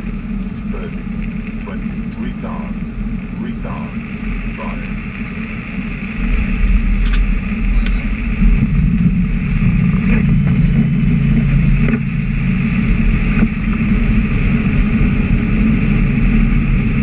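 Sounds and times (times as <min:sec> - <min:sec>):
airliner engines and rushing air: 0:00.0 - 0:17.0.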